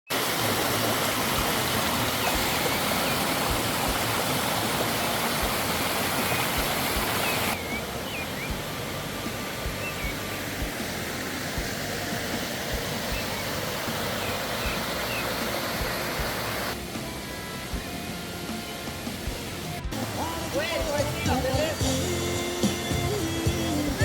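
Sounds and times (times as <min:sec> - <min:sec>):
waterfall rushing: 0:00.1 - 0:24.0.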